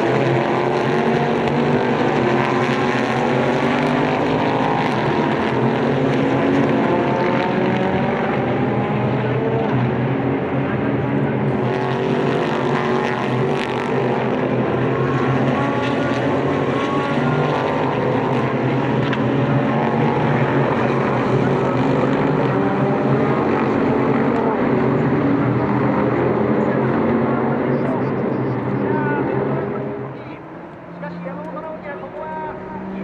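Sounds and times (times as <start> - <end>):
race car engines running: 0.0 - 33.0.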